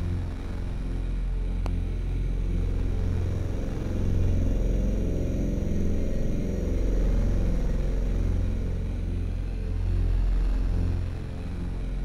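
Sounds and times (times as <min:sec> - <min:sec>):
dark synth drone music: 0:00.0 - 0:12.0.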